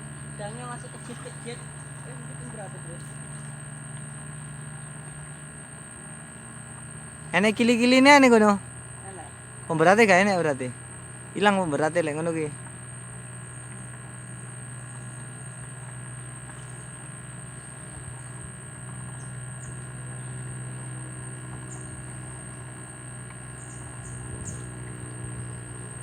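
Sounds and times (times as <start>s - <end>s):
constant low hum: 0.0s - 26.0s
night insects chirring: 0.0s - 26.0s.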